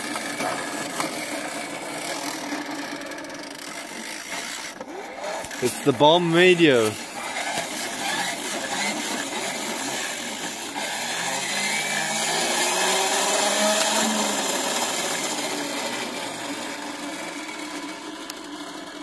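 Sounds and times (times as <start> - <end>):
hand crank grinding whirr: 0.0 - 19.0.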